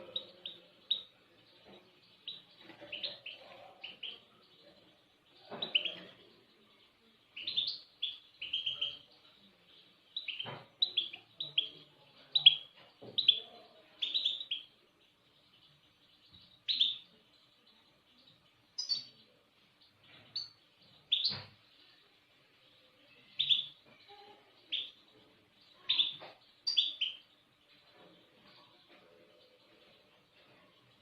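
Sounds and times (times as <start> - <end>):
songbird chirping: 0.0 - 31.0.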